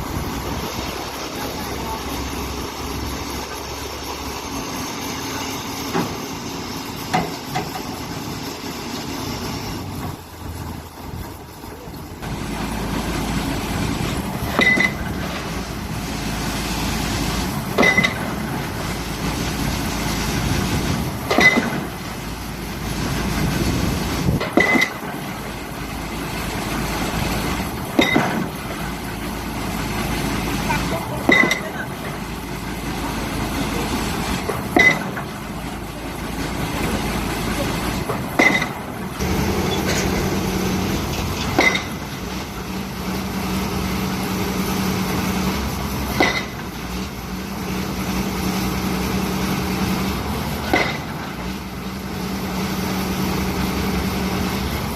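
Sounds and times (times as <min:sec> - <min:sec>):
diesel engine drone: 0:00.0 - 0:54.9
pile driver metallic blows: 0:04.5 - 0:54.9.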